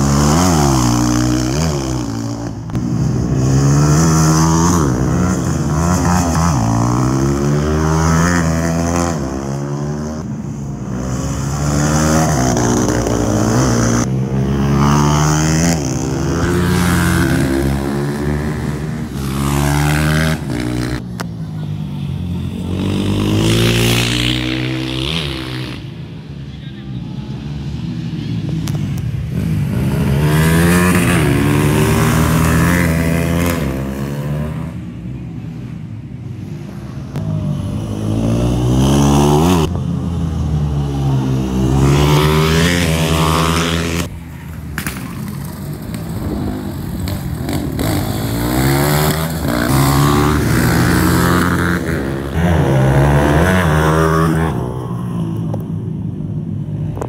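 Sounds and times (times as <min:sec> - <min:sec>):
race motorcycles revving and passing: 0:00.0 - 0:57.0.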